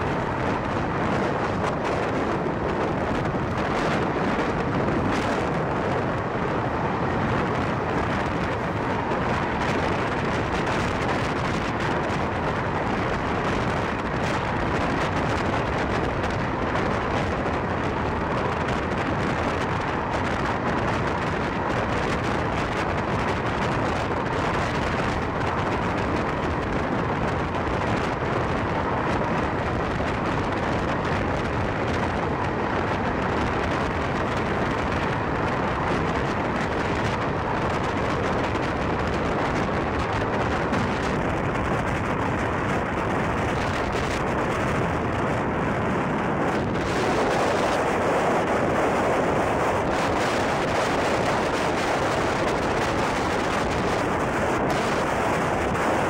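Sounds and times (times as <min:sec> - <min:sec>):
wind roar: 0:00.0 - 0:56.0.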